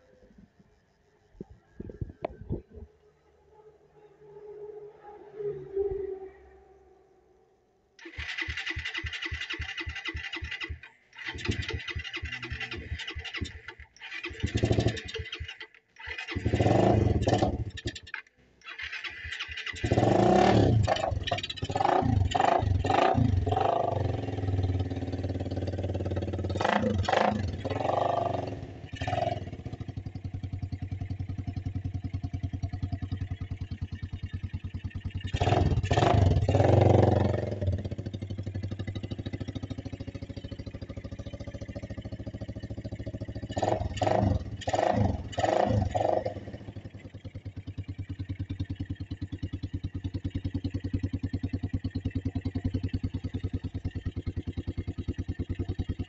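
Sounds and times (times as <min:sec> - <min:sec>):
motorcycle engine revving and idling: 0:08.0 - 0:56.0.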